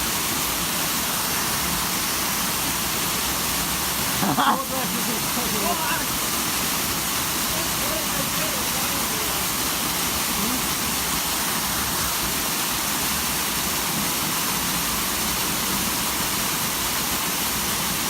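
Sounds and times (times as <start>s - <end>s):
waterfall roar: 0.0s - 18.0s.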